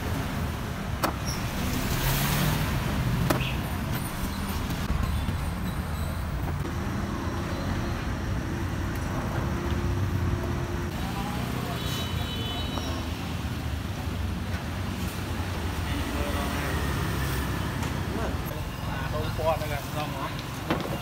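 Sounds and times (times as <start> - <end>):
motorbike and car engines: 0.0 - 11.8, 13.3 - 21.0.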